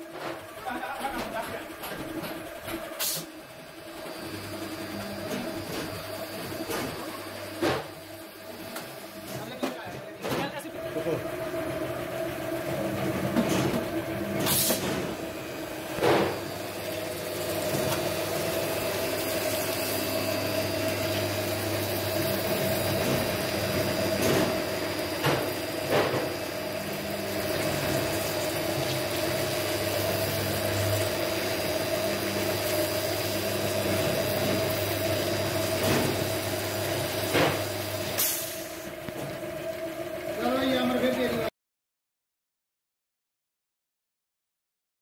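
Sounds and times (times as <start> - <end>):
workshop machinery humming: 0.0 - 41.5.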